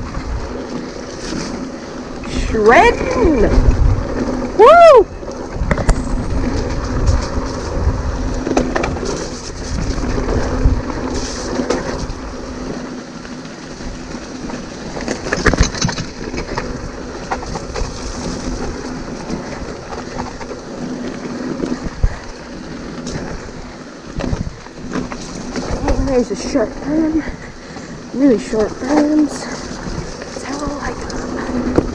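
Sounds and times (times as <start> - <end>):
bike knocking and rattling over bumps: 0.0 - 31.9
bike tyres rumbling on dirt: 0.0 - 31.9.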